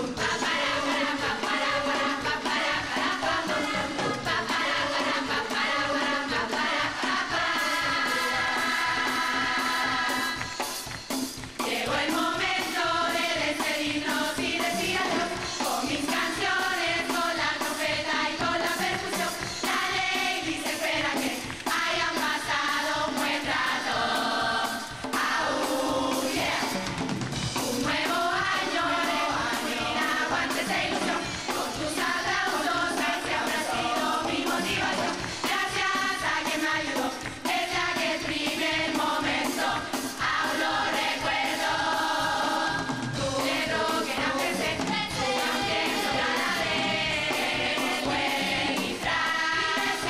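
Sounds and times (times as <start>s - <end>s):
women's chorus singing: 0.0s - 10.7s, 11.6s - 50.0s
steady drum beat: 0.0s - 50.0s.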